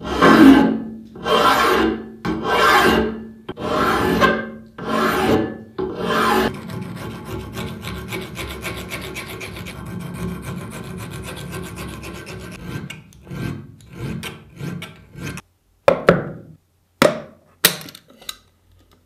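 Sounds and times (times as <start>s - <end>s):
file rasping on metal: 0.0s - 15.4s.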